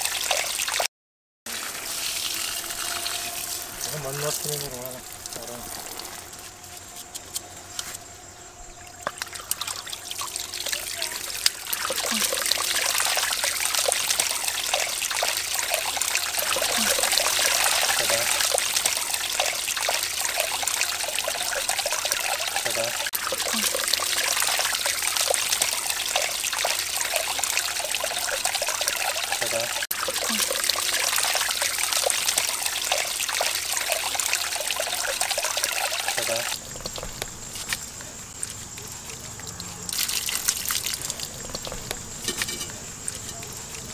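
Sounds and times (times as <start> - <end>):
water pouring into pot of rice: 1.5 - 6.4, 9.0 - 37.0, 39.9 - 43.9.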